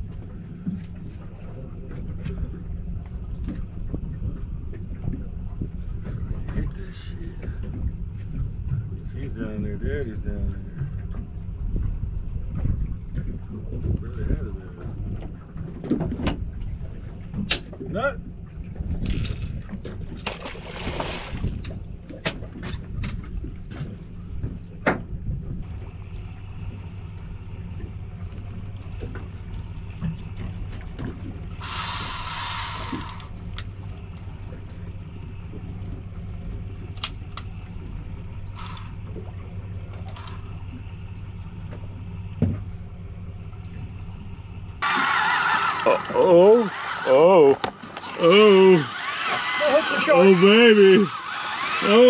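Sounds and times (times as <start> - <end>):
outboard motor idling: 0.0 - 52.0.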